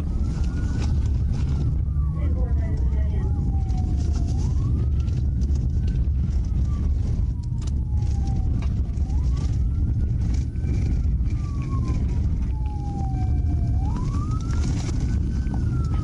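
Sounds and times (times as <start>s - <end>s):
car engine and tyres rumbling: 0.0s - 16.0s
police siren wailing: 0.0s - 16.0s.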